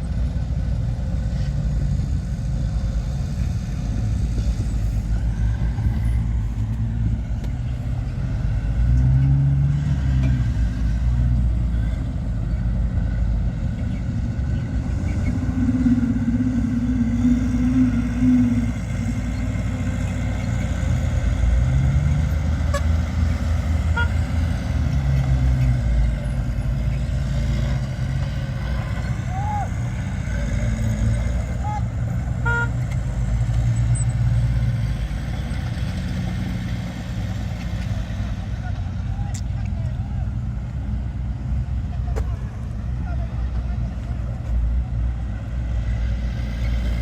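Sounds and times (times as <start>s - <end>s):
heavy diesel machinery engines: 0.0s - 47.0s.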